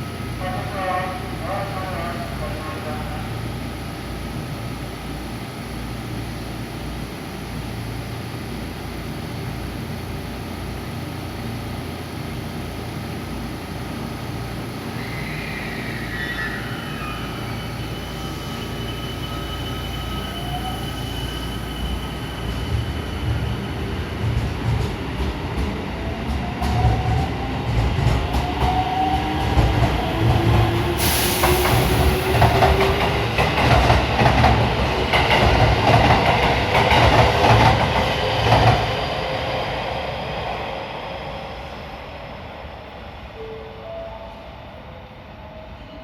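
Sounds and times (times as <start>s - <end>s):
electric train rumbling: 0.0s - 46.0s.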